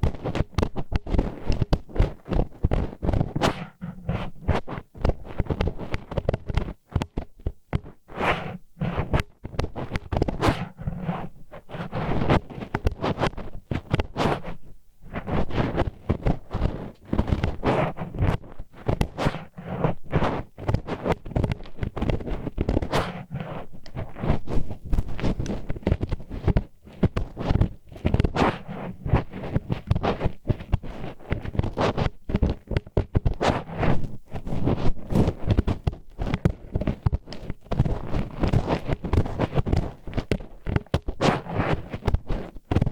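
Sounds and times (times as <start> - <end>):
wooden chopsticks scraping microphone: 0.3 - 42.9.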